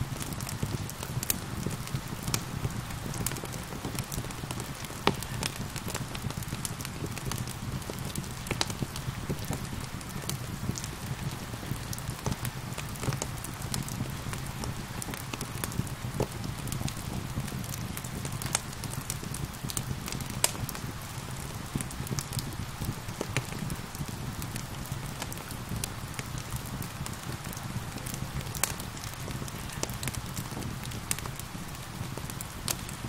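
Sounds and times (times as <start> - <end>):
falling rain: 0.0 - 33.0
wood fire crackling and popping: 0.0 - 33.0.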